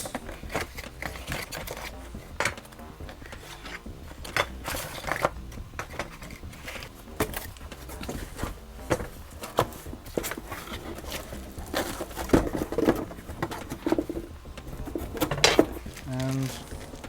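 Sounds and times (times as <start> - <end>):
plastic and metal parts clinking: 0.0 - 17.0.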